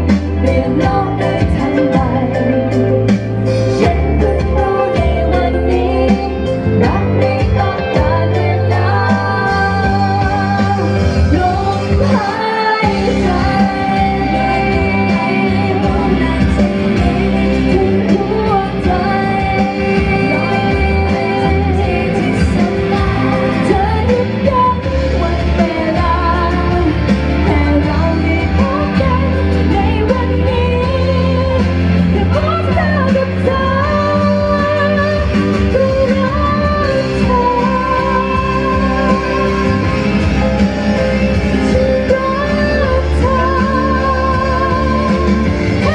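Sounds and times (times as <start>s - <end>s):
amplified backing music: 0.0s - 45.9s
woman singing into microphone: 0.0s - 45.9s.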